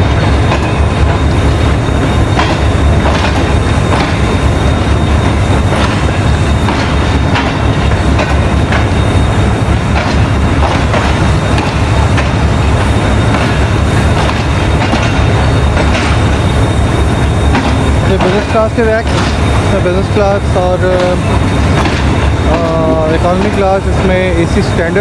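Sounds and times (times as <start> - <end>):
train running gear rumble: 0.0 - 25.0
wheel clacks over rail joints: 0.0 - 25.0.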